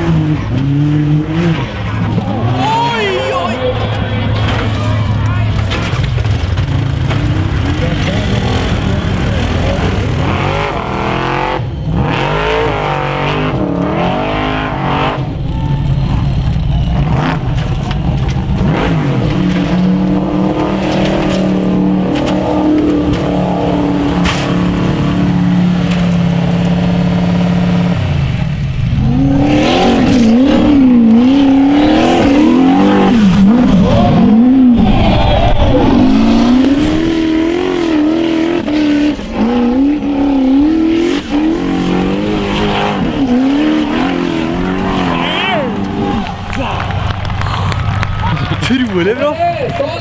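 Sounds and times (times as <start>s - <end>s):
buggy engines revving: 0.0s - 50.0s.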